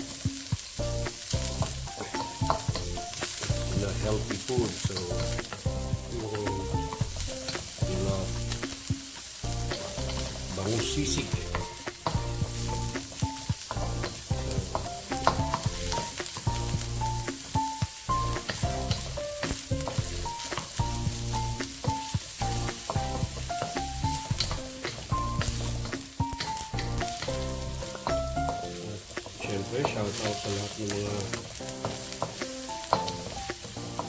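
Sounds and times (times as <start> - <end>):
background music with bass: 0.0 - 34.0
onions sizzling in hot oil: 0.0 - 34.0
spatula scraping and tapping wok: 0.0 - 34.0.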